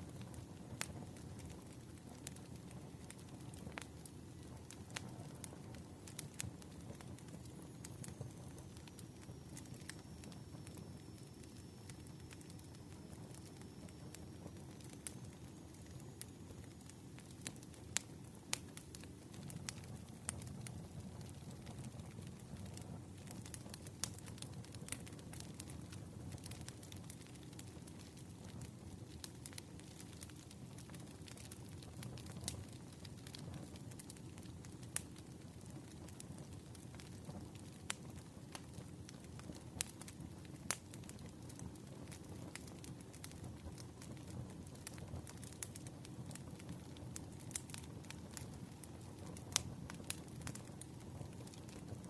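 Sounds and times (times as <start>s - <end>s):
burning logs rumbling: 0.0s - 10.8s, 12.0s - 52.0s
fire pops and snaps: 0.0s - 52.0s.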